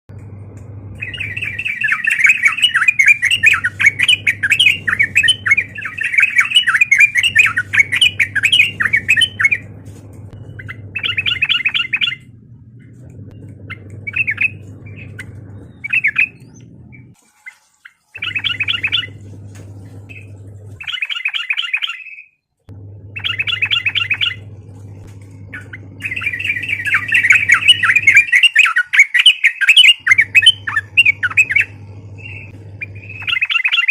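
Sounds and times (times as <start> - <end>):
low steady hum: 0.1 - 21.0, 22.6 - 28.7, 30.0 - 33.8
bulbul chattering song: 0.2 - 33.9.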